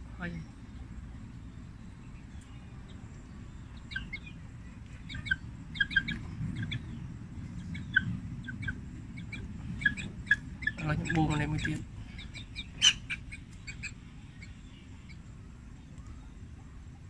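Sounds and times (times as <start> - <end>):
low background noise: 0.0 - 17.0
high bird chirps: 1.6 - 15.3.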